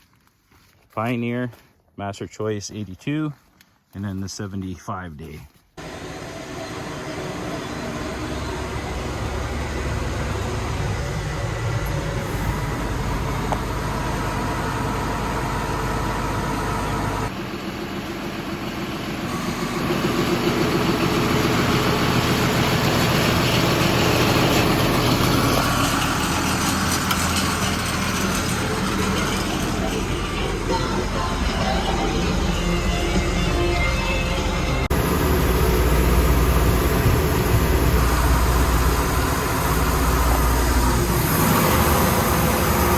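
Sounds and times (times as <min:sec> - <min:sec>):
vehicle engine running: 0:05.8 - 0:42.9.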